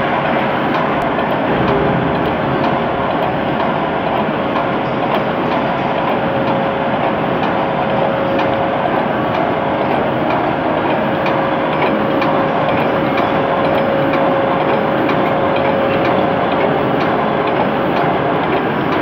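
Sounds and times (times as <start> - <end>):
machine mechanical clatter: 0.0 - 19.0
steady machine hum: 0.0 - 19.0.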